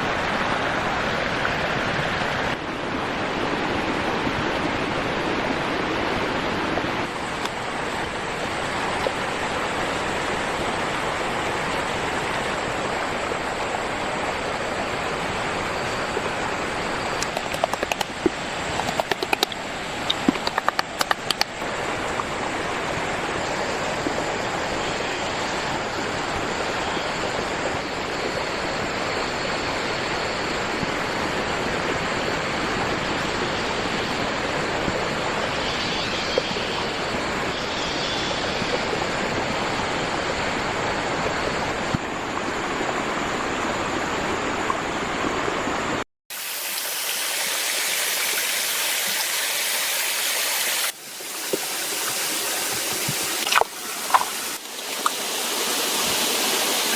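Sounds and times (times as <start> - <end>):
flowing water rushing: 0.0 - 56.9.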